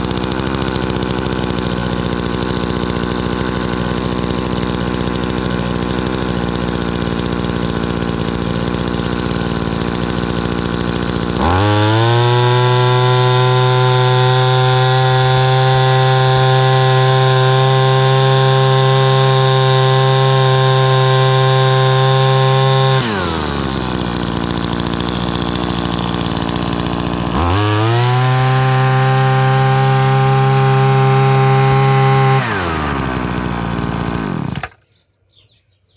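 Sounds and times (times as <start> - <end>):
strimmer engine revving: 0.0 - 34.8.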